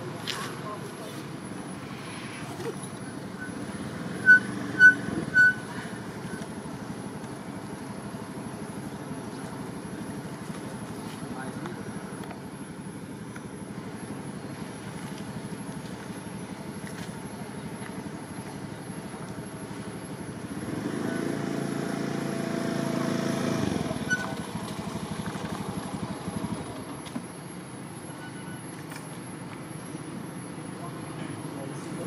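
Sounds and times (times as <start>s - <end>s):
motor engine rumbling: 0.0s - 32.0s.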